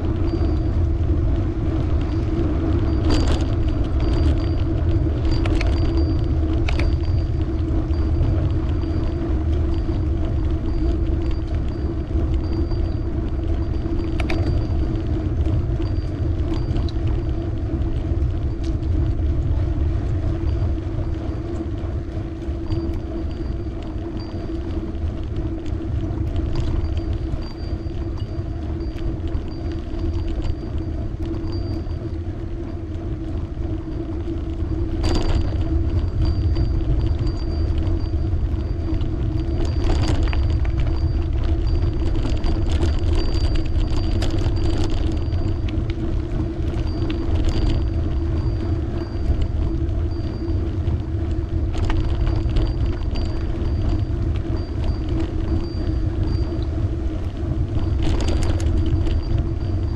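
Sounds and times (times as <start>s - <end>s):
steady hum: 0.0s - 59.9s
wind and tyre rumble: 0.0s - 59.9s.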